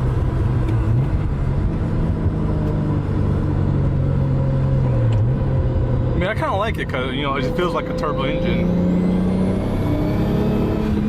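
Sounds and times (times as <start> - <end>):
car engine running while driving: 0.0 - 11.0.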